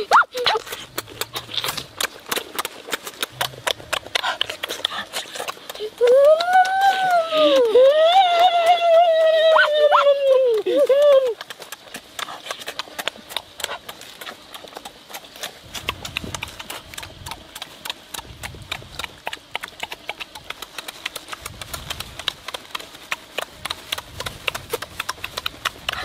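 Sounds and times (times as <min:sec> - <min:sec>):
lip-smacking and chewing: 0:00.0 - 0:26.0.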